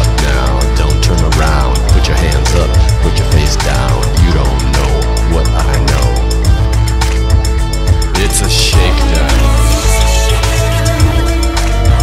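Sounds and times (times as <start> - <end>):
pop song with heavy bass: 0.0 - 12.0.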